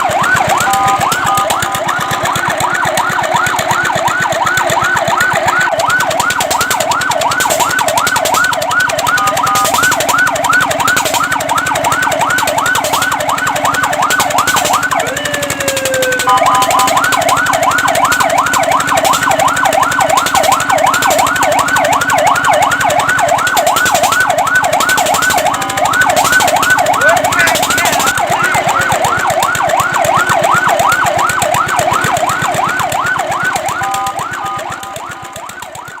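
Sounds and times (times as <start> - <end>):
fire truck siren yelping: 0.0 - 36.0.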